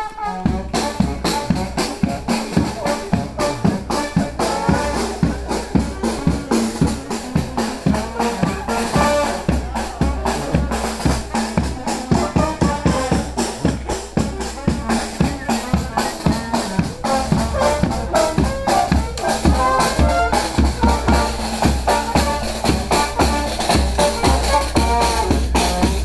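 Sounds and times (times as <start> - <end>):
marching brass band playing: 0.0 - 26.0.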